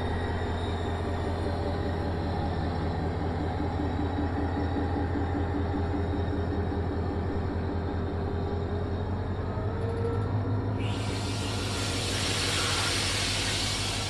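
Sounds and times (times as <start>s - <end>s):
diesel locomotive engines droning: 0.0s - 14.0s.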